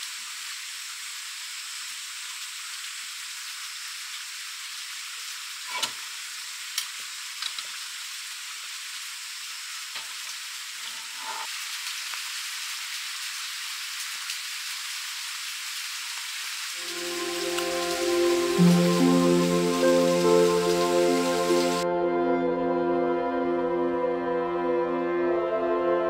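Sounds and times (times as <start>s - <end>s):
steady hiss: 0.0s - 21.8s.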